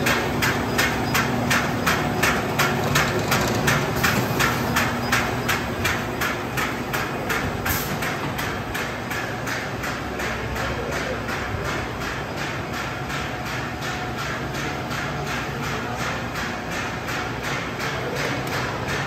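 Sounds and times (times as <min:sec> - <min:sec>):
machine rhythmic clacking: 0:00.0 - 0:19.0
steady machine hum: 0:00.0 - 0:19.0.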